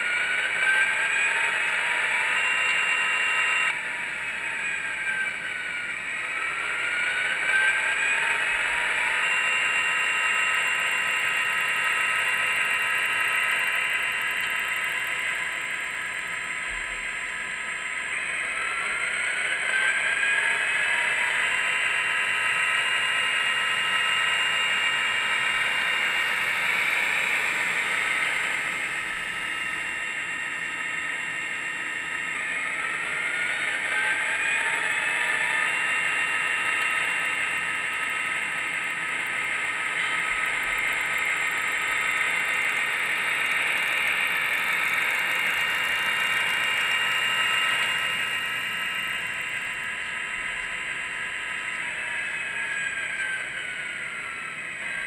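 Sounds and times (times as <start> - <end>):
model locomotive diesel engine sound: 0.0 - 55.0.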